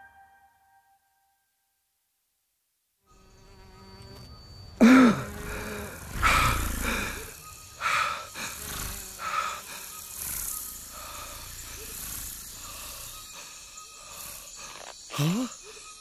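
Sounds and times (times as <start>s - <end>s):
faint forest ambience: 0.0s - 16.0s
buzzing insect-like calls: 3.1s - 16.0s.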